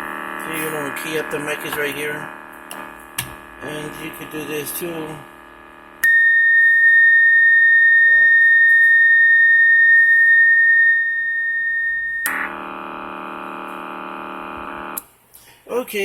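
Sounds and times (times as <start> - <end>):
low buzzing tone: 0.0 - 15.0.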